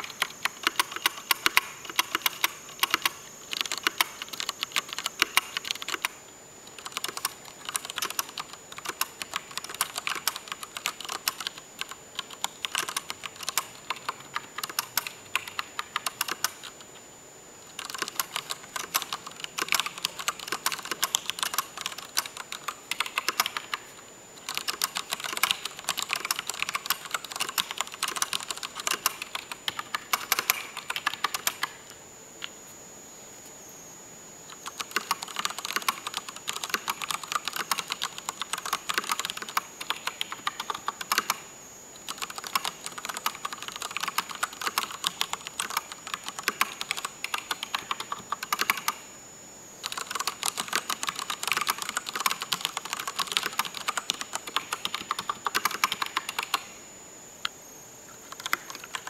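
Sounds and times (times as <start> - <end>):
mechanical keyboard typing: 0.0 - 16.9, 17.7 - 31.8, 34.5 - 41.4, 42.0 - 49.0, 49.8 - 56.7, 58.2 - 59.0.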